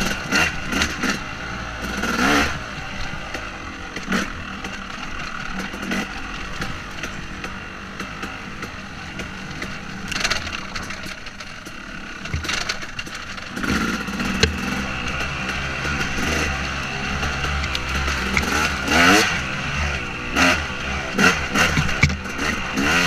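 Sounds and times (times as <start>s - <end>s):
motocross engine revving: 0.0s - 23.0s.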